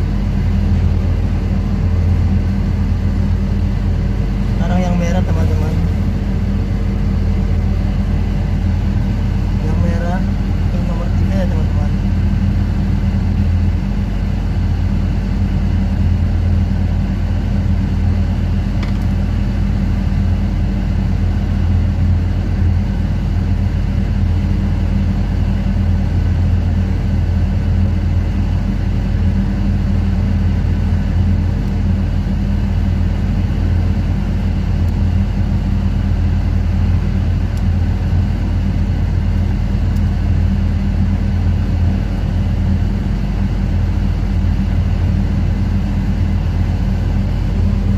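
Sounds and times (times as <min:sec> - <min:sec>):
ship machinery deep drone: 0:00.0 - 0:47.9.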